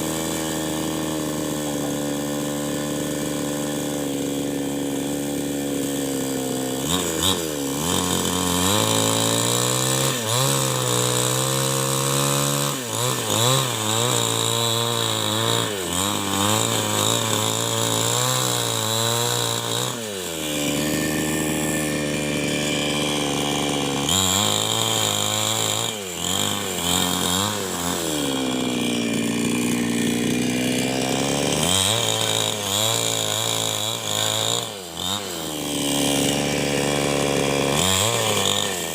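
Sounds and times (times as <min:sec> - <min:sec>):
chainsaw cutting a log: 0:00.0 - 0:38.9.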